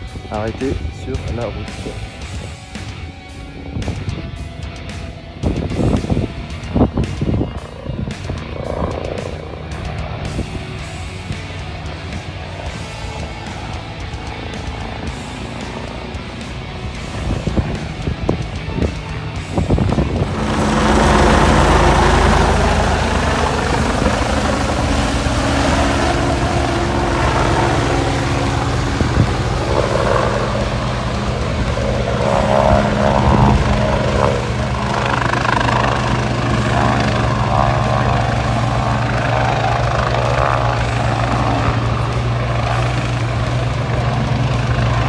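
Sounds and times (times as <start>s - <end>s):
helicopter drone: 0.0s - 45.0s.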